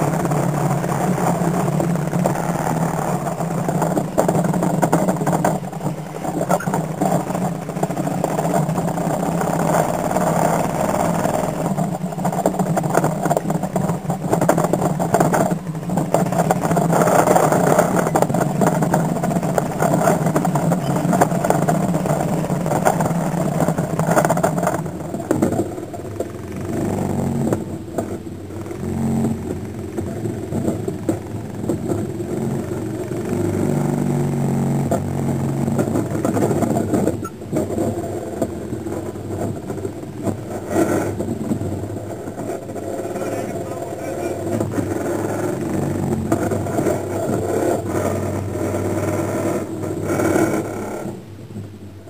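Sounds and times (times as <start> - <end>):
atv engine running: 0.0 - 52.0.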